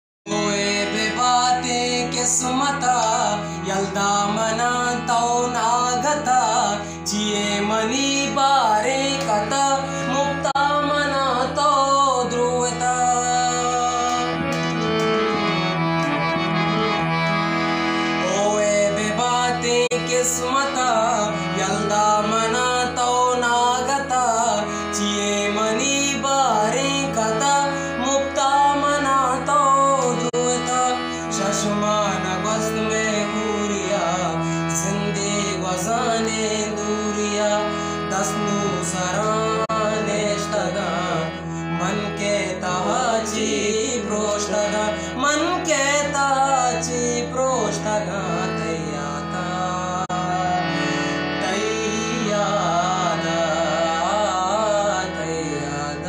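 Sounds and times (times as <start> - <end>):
harmonium chords: 0.3 - 56.0
young man singing: 0.3 - 56.0.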